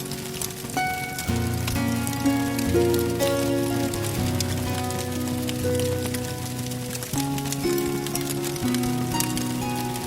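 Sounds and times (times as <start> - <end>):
campfire crackling: 0.0 - 10.0
music with slow held chords: 0.0 - 10.0.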